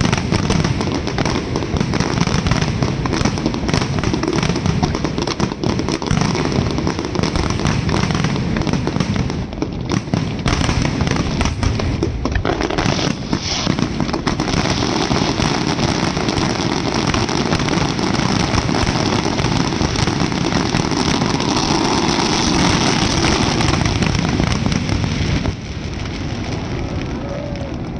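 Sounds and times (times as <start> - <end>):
fireworks crackling bangs: 0.0 - 27.9.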